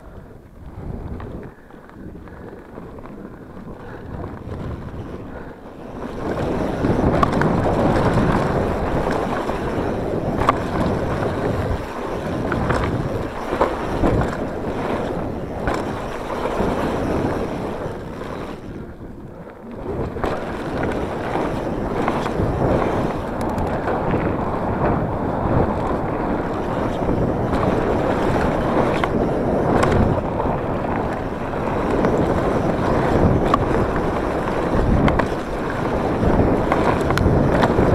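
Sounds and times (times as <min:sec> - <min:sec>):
wind rushing over microphone: 0:00.0 - 0:37.9
tyres rolling over dirt: 0:00.9 - 0:19.0, 0:19.6 - 0:37.9
bike knocks and rattles: 0:02.3 - 0:18.8, 0:19.6 - 0:37.9.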